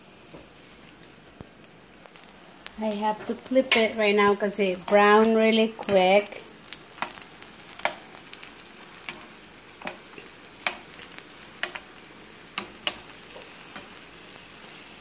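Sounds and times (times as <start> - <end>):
oil sizzling in a skillet: 0.0 - 15.0.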